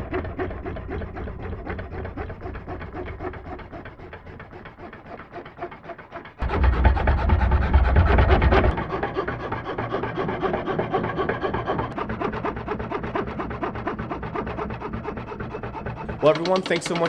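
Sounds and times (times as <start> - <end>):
scroll saw cutting wood: 0.0 - 17.0.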